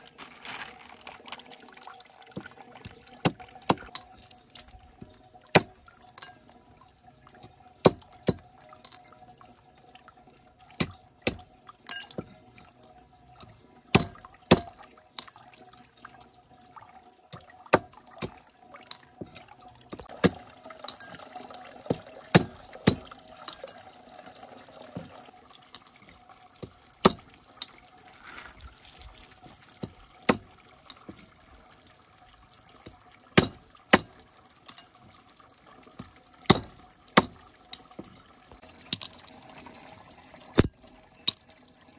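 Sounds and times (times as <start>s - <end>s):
water trickling into basin: 0.0s - 41.9s.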